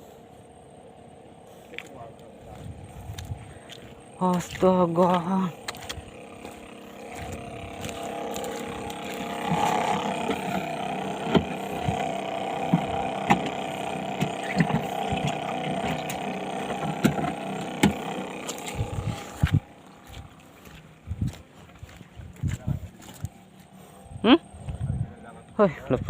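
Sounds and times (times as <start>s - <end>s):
motor droning: 0.0s - 26.0s.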